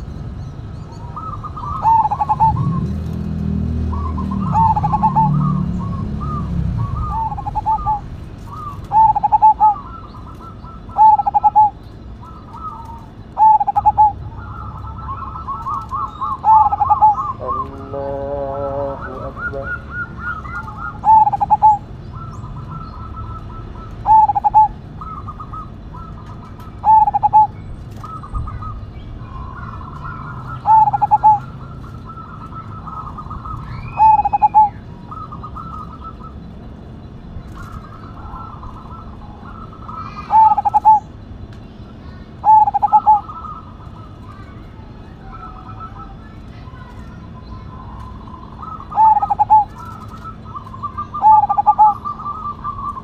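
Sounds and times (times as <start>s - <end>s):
birds chirping: 0.0s - 53.0s
dove cooing: 0.6s - 36.7s, 37.4s - 41.2s, 42.0s - 53.0s.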